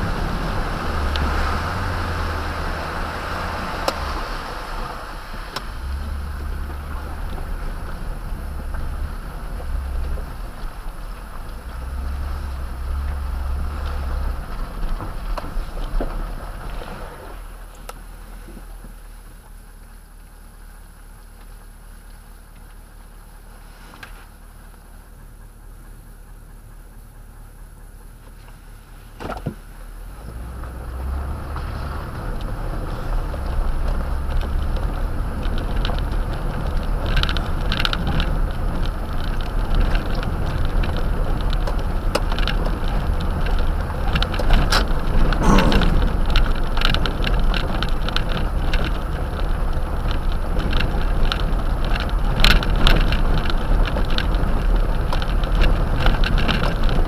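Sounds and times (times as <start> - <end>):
gravel and body rattles: 0.0 - 57.0
truck engine rumble: 0.0 - 57.0.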